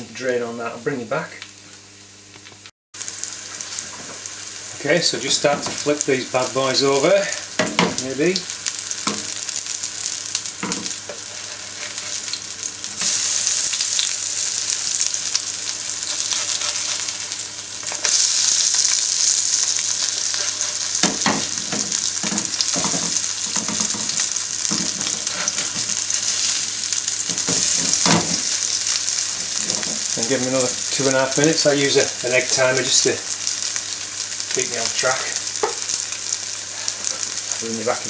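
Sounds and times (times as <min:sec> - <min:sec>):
fritters sizzling in a frying pan: 0:03.0 - 0:38.0.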